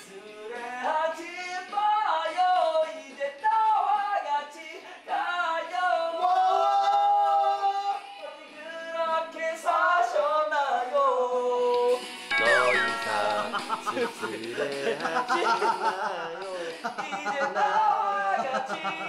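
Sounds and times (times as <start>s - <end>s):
person singing a song: 0.0s - 19.0s.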